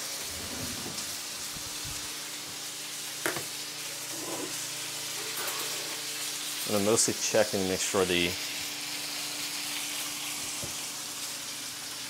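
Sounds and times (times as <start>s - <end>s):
steaks sizzling in a pan: 0.0s - 12.0s.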